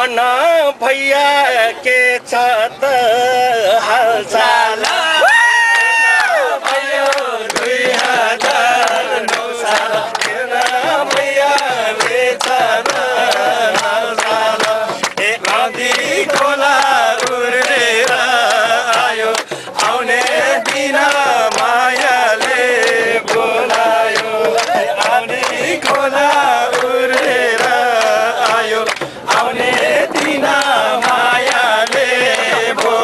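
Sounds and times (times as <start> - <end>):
men singing together: 0.0 - 33.0
loud irregular handclapping: 4.4 - 33.0.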